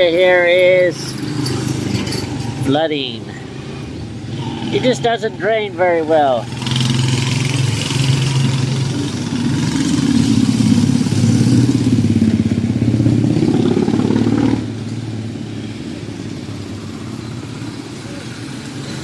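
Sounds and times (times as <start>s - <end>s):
street traffic noise: 0.0s - 19.0s
vehicle engine passing close: 0.0s - 19.0s.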